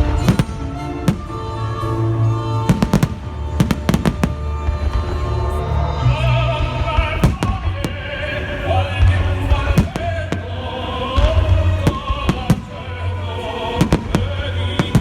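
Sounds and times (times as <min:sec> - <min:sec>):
fireworks bursting: 0:00.0 - 0:05.4, 0:06.9 - 0:15.0
orchestral music from loudspeakers: 0:00.0 - 0:15.0.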